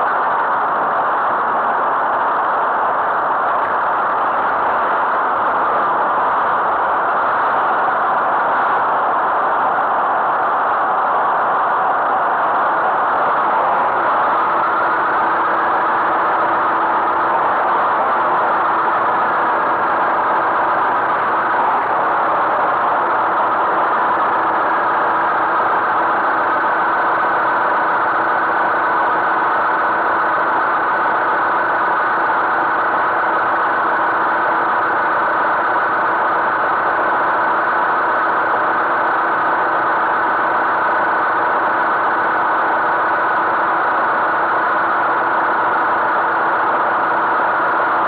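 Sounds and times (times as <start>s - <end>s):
high engine whine: 0.0s - 48.0s.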